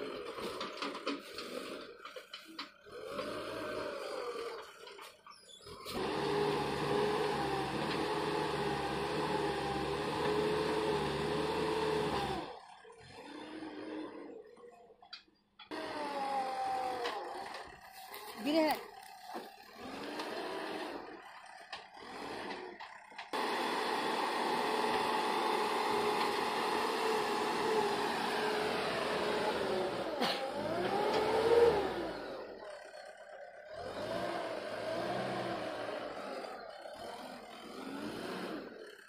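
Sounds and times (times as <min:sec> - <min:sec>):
diesel engine running under load: 0:00.0 - 0:39.0
loader bucket pushing soil: 0:00.0 - 0:39.0.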